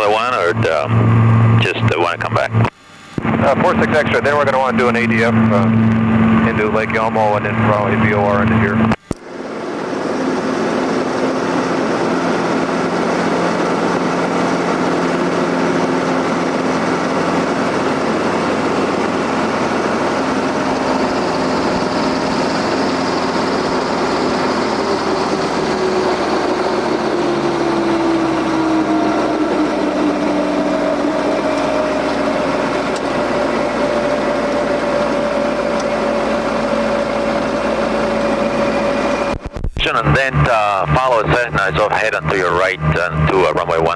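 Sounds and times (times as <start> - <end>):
helicopter engine and rotor noise: 0.0 - 43.9.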